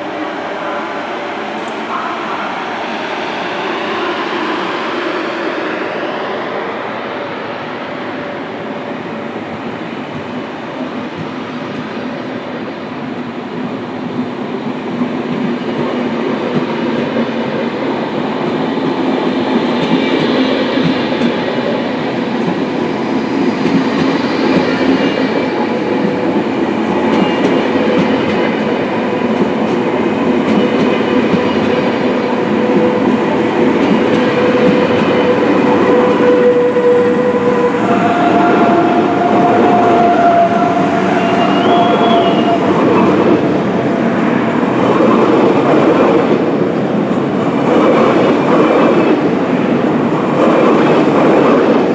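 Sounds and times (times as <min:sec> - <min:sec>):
electric train hum: 0:00.0 - 0:51.9.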